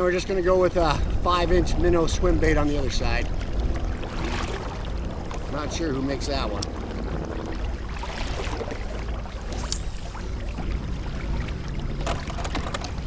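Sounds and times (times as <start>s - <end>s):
water washing along kayak hull: 0.0s - 13.0s
wind rumble on microphone: 0.0s - 13.0s.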